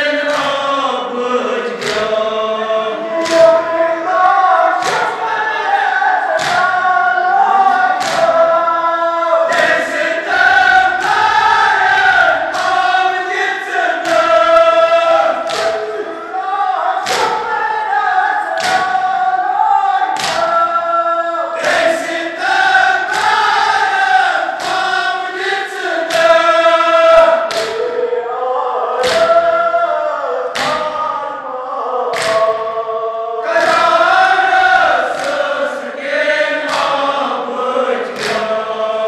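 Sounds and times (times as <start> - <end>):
rhythmic hand-on-chest beating: 0.0 - 21.0, 21.6 - 28.1, 29.0 - 31.2, 32.1 - 39.0
men chanting in unison: 0.0 - 39.0.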